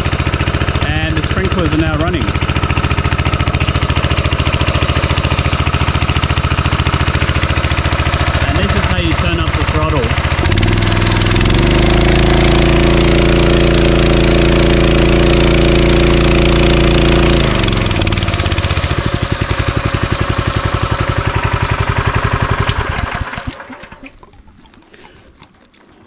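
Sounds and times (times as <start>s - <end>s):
petrol engine revving and idling: 0.0s - 24.0s.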